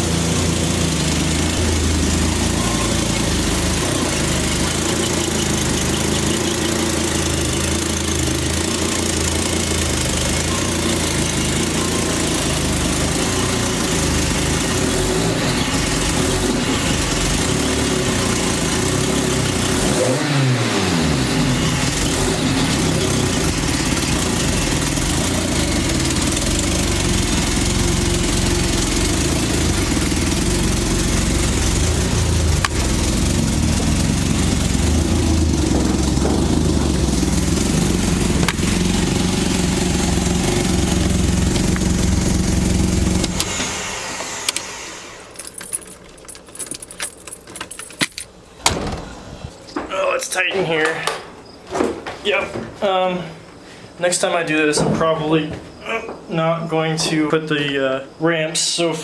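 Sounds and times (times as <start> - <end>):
car engine idling: 0.0 - 49.6.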